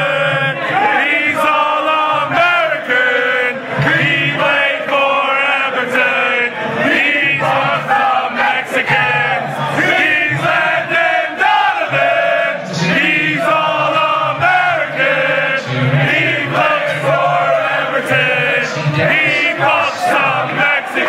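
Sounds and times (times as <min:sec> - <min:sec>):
crowd chanting in unison: 0:00.0 - 0:21.0.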